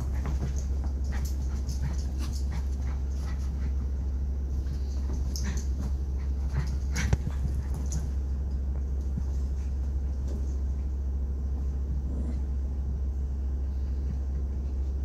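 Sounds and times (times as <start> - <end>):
dogs scuffling: 0.0 - 12.1
steady low hum: 0.0 - 15.0.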